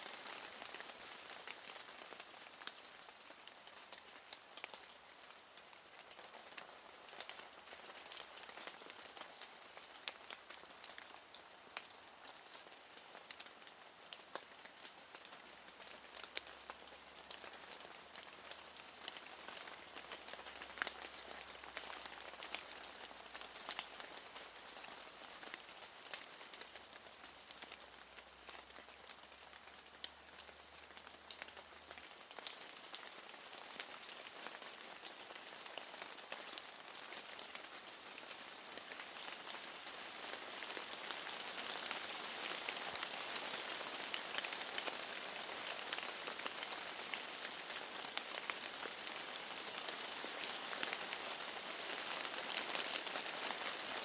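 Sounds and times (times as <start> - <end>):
soft rain patter: 0.0 - 54.0.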